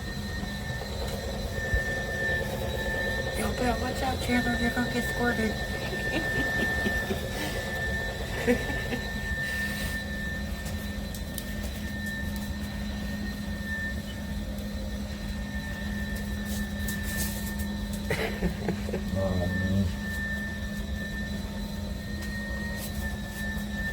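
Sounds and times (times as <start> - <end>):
spin mop motor whine: 0.0 - 23.9.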